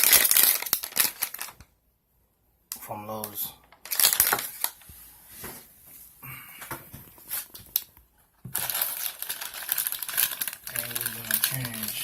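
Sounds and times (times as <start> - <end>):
crinkling and rustling: 0.0 - 1.7, 3.2 - 12.0.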